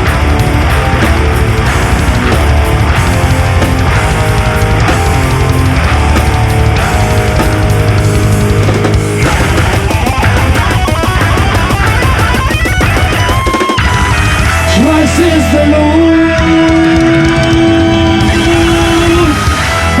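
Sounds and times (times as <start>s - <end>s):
bass guitar: 0.0s - 20.0s
distorted guitars: 0.0s - 20.0s
drums: 0.0s - 20.0s.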